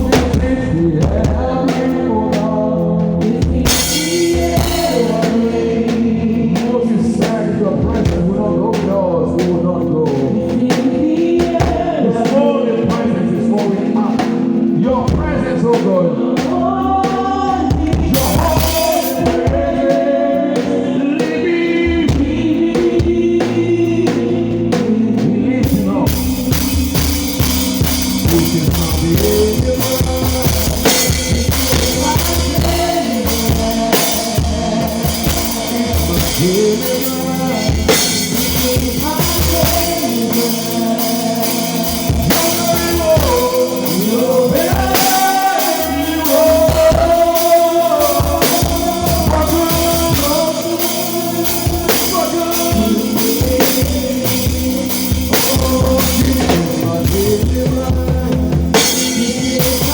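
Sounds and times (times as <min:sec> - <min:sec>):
live band playing gospel groove: 0:00.0 - 0:59.9
person singing: 0:00.0 - 0:59.9.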